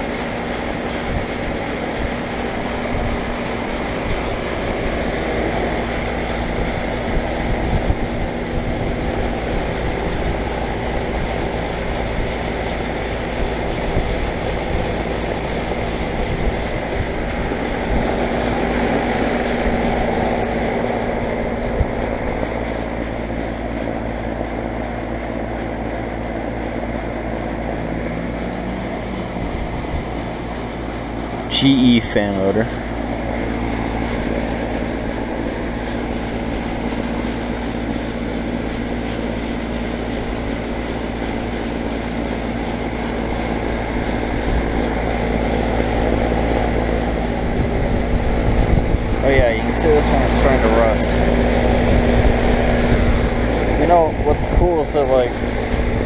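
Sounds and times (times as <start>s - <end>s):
compressor humming: 0.0s - 56.0s
condenser fan air rush: 0.0s - 56.0s.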